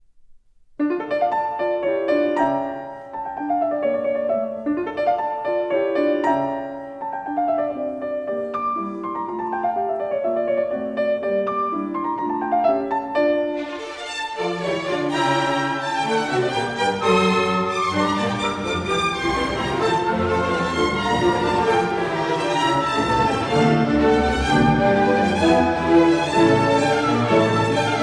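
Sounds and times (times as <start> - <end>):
piano music: 0.8 - 28.0.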